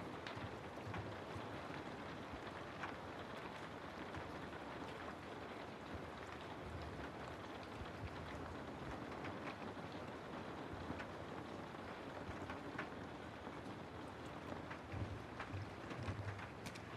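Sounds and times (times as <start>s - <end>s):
rain falling through trees: 0.0s - 16.9s
raindrop ticks: 0.0s - 16.9s.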